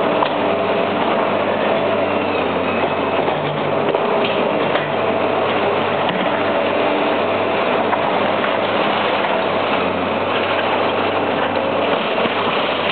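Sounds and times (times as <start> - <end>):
diesel engine under load: 0.0 - 12.9.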